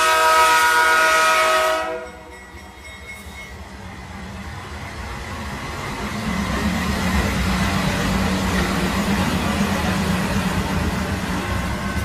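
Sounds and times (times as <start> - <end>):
train rumbling by: 0.0 - 12.0.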